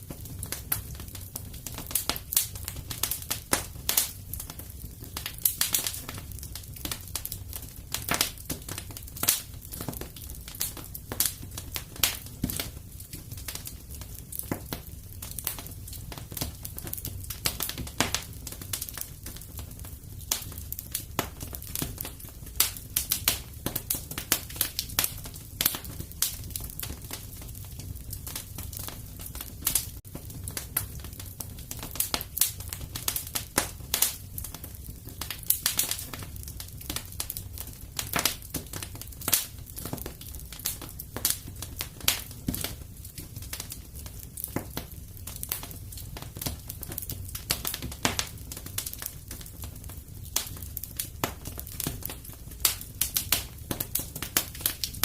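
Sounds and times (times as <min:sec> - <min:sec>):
fire low rumble: 0:00.0 - 0:55.0
fire popping and snapping: 0:00.0 - 0:55.0.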